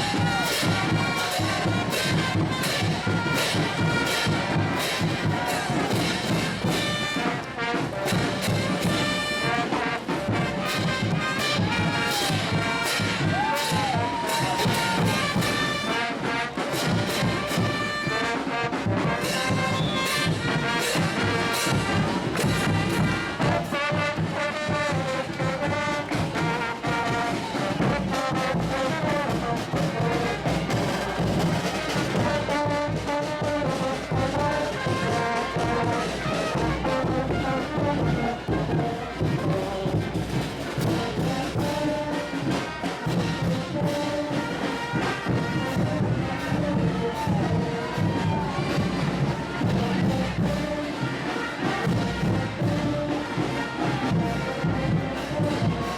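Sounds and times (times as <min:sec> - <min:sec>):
drum and cymbal beats: 0:00.0 - 0:55.9
trumpets and trombones: 0:00.0 - 0:55.9.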